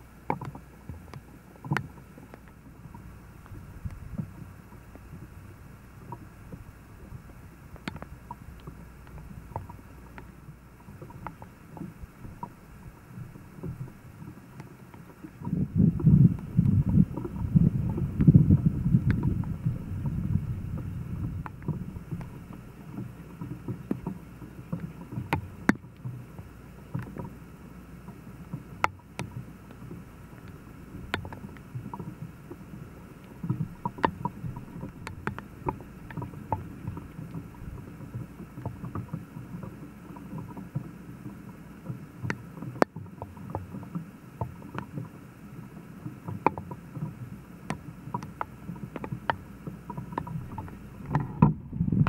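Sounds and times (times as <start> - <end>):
low steady rumble: 0.0 - 52.0.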